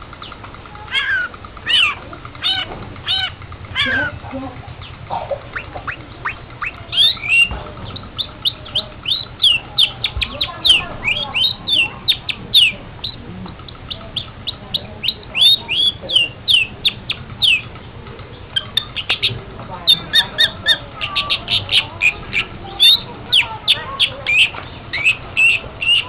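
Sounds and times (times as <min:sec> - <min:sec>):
bird chattering song: 0:00.0 - 0:26.0.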